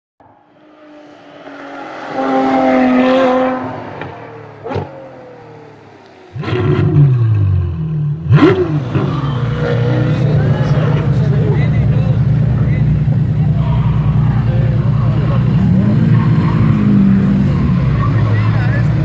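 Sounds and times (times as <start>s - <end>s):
car engine revving: 0.2s - 19.0s.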